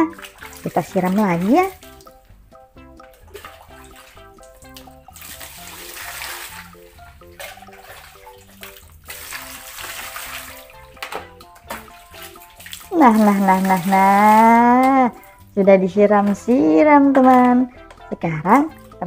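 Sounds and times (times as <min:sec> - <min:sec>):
water pouring and splashing: 0:00.0 - 0:02.4, 0:03.0 - 0:19.0.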